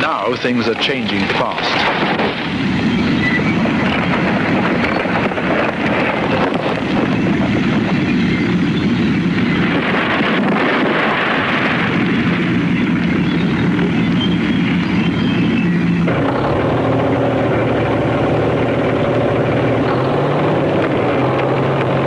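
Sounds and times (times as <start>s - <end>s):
bulldozer engine running: 0.0s - 22.0s.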